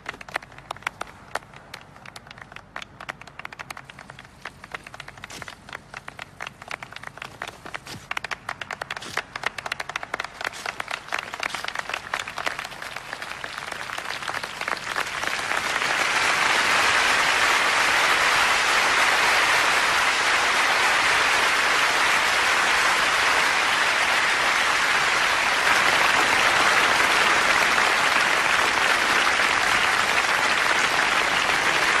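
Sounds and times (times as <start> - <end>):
large crowd applauding: 0.0 - 32.0.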